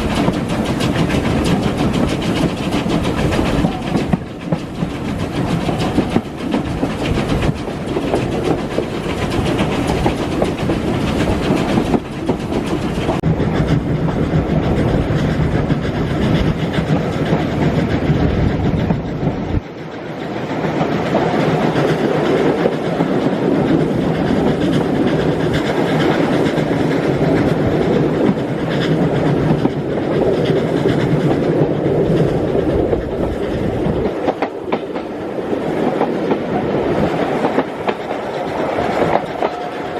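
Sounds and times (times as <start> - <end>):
deep train rumble: 0.0 - 39.9
train wheels clattering on rails: 0.0 - 39.9.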